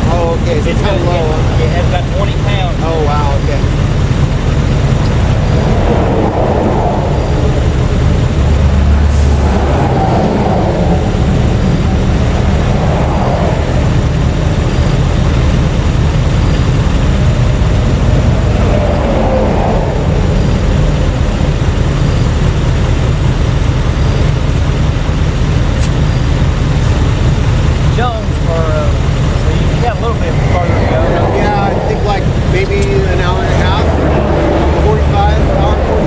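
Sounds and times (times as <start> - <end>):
highway traffic rumble: 0.0 - 36.0
vehicles passing: 0.0 - 36.0.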